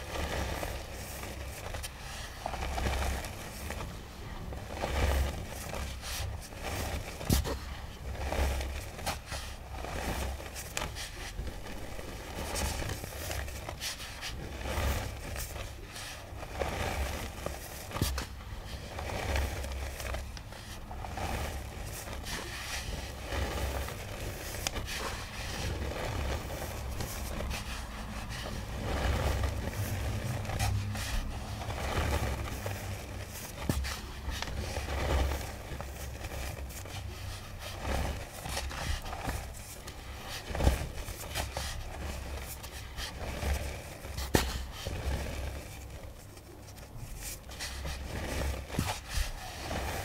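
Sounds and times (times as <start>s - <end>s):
powder scraping and crackling: 0.0s - 50.0s
small crunches: 0.0s - 50.0s.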